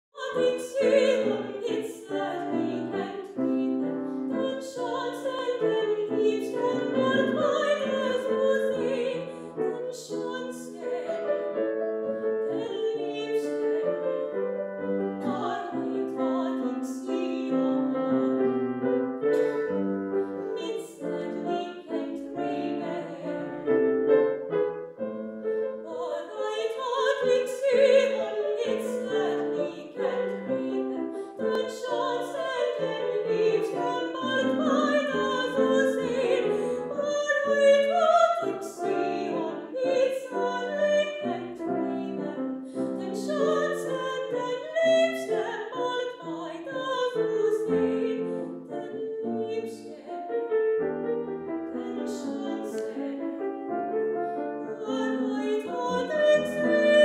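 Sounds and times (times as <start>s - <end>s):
woman singing operatically: 0.2s - 11.4s, 12.4s - 13.9s, 15.2s - 18.4s, 20.4s - 23.7s, 25.8s - 50.3s, 51.7s - 53.2s, 54.7s - 57.0s
piano accompaniment: 0.2s - 57.0s.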